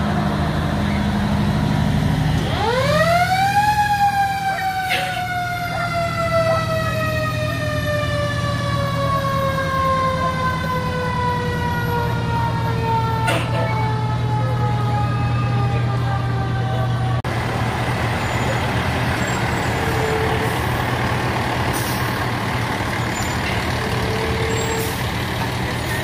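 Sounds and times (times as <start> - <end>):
fire truck siren: 0.0 - 26.0
truck engine hum: 0.0 - 26.0.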